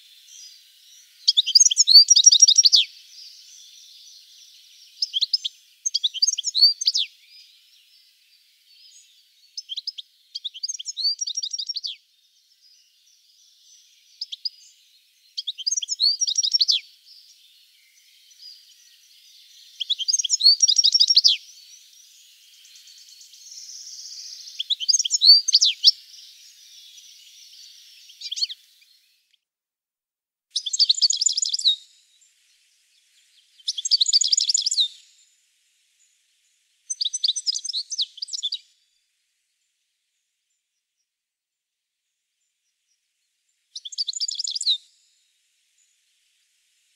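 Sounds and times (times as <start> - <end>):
goldfinch twittering song: 0.0 - 29.3, 30.5 - 39.0, 43.6 - 46.9.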